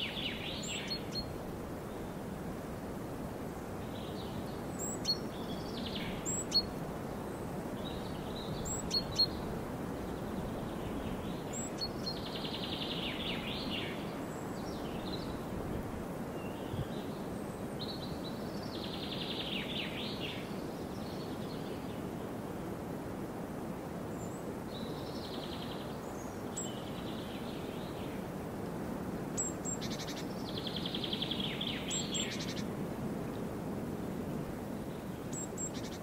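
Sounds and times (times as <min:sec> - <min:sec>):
songbirds calling: 0:00.0 - 0:02.4, 0:03.7 - 0:22.1, 0:24.1 - 0:28.3, 0:29.4 - 0:33.5, 0:34.8 - 0:36.0
background hiss: 0:00.0 - 0:36.0.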